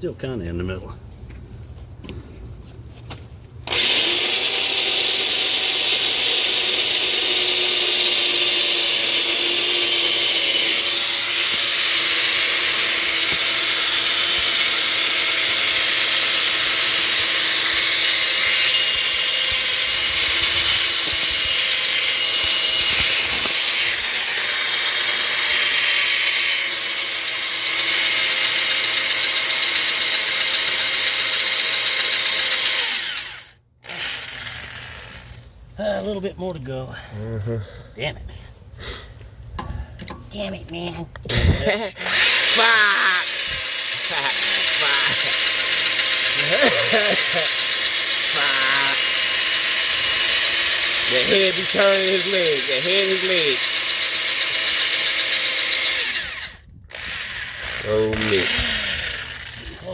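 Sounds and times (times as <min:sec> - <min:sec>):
electric drill boring into steel: 0:03.6 - 0:35.5, 0:41.9 - 0:59.9.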